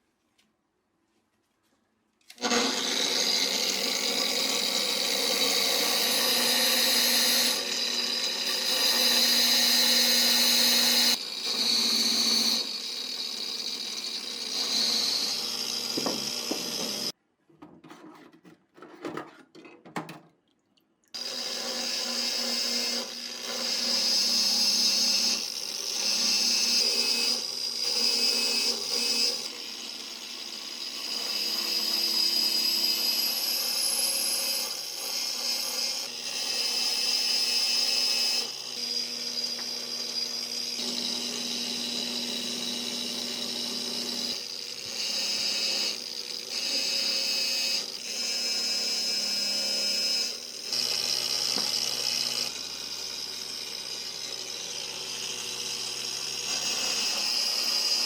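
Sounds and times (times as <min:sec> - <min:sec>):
handheld power tool running: 0:02.2 - 0:17.2, 0:21.2 - 0:58.0.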